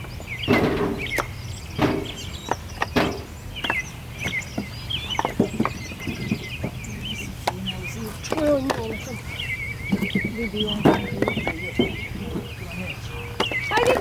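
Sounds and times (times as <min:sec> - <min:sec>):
sharp knocks: 0:00.0 - 0:09.1, 0:09.9 - 0:12.8
chickens clucking: 0:00.0 - 0:14.0
high bird chirps: 0:00.0 - 0:14.0.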